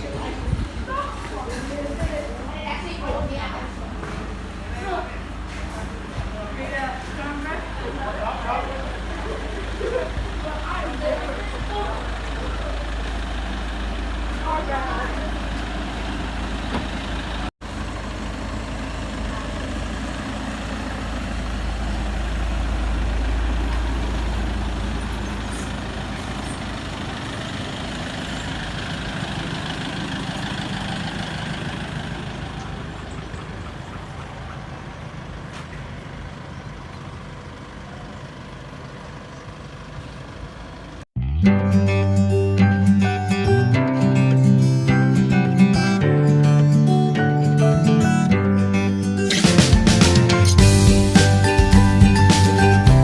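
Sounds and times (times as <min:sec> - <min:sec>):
motor vehicle rumbling: 0:00.0 - 0:53.0.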